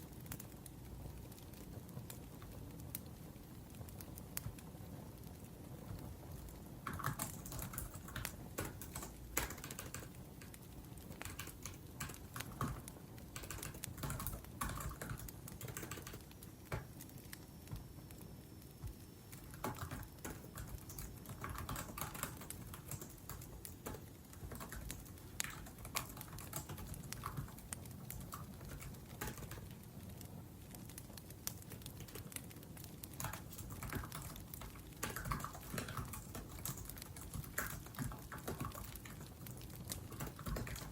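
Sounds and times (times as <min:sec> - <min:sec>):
wood fire crackling: 0:00.0 - 0:40.9
laptop keyboard typing: 0:06.8 - 0:18.2, 0:18.8 - 0:30.2, 0:30.8 - 0:40.9.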